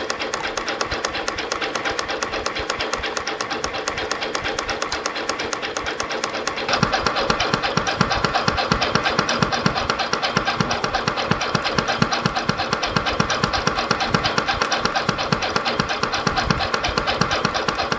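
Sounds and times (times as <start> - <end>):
spring coiling machine clatter: 0.0 - 17.9.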